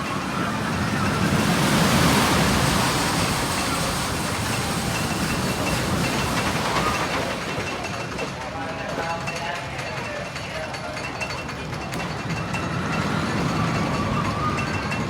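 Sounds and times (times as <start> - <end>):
roller coaster rushing on track: 0.0 - 15.0.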